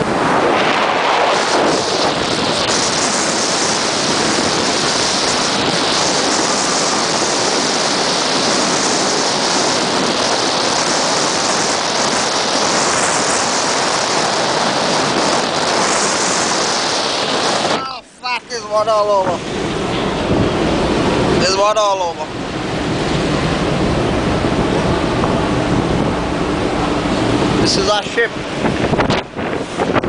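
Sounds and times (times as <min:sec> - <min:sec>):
waves breaking at sea: 0:00.0 - 0:30.0
wind buffeting microphone: 0:00.0 - 0:30.0.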